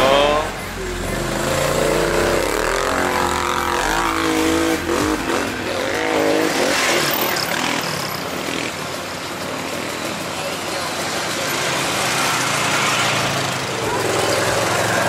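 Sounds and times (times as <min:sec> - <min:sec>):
quad bike engines revving: 0:00.0 - 0:15.0.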